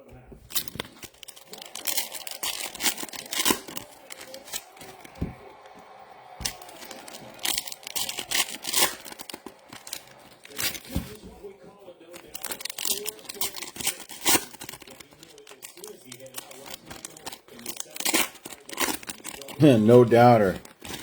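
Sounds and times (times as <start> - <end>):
packaging tearing and crinkling: 0.4 - 11.2, 12.2 - 21.0.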